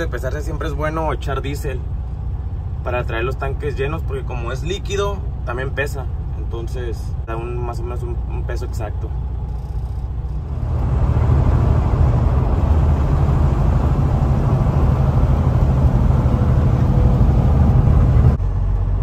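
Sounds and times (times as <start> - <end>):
road and tyre noise: 0.0 - 19.0
truck engine drone: 0.0 - 19.0.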